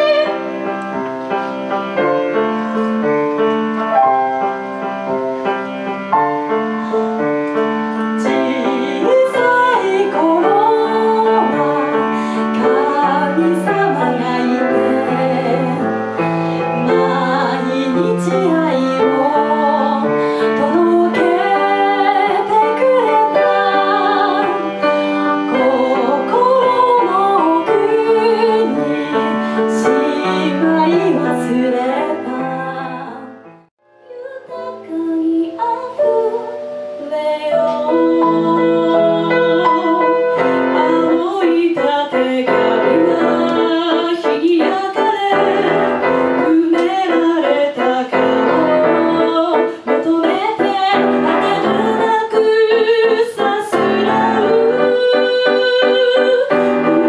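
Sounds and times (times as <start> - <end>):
woman singing: 0.0 - 0.5, 6.5 - 57.0
piano accompaniment: 0.0 - 57.0.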